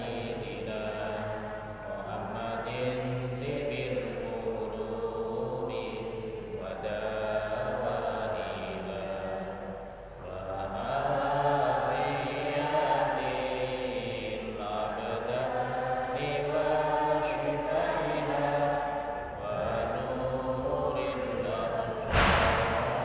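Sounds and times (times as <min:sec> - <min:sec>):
man chanting: 0:00.0 - 0:09.4, 0:10.2 - 0:18.6, 0:19.3 - 0:22.2.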